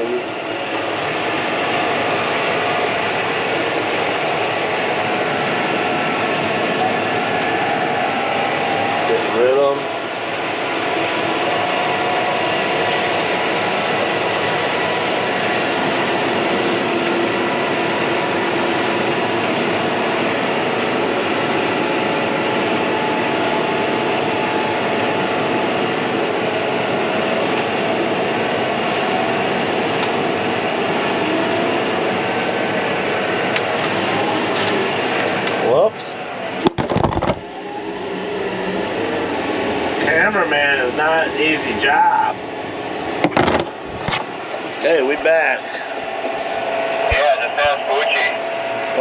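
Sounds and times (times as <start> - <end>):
tractor engine drone: 0.0 - 49.0.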